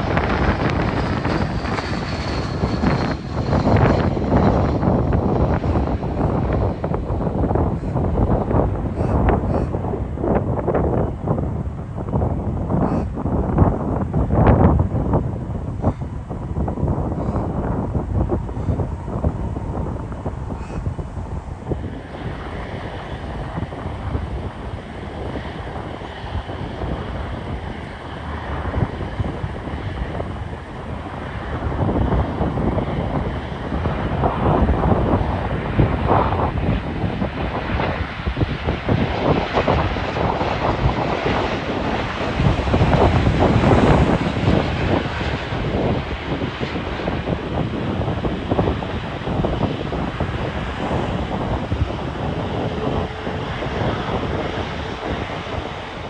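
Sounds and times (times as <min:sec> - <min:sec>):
jet engine rumble: 0:00.0 - 0:56.0
wind buffeting microphone: 0:00.0 - 0:56.0.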